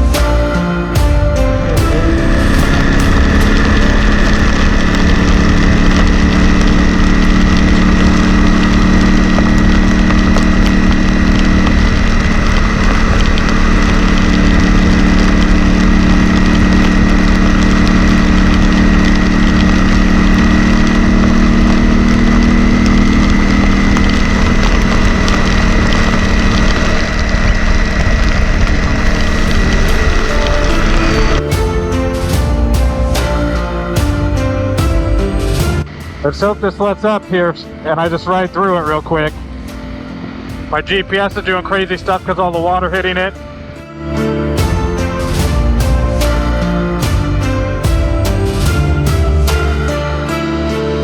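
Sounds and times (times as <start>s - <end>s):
motorcycle engine running: 0.0s - 37.2s, 37.9s - 43.6s, 44.6s - 50.3s
wind and road noise: 1.1s - 37.2s, 37.9s - 43.8s.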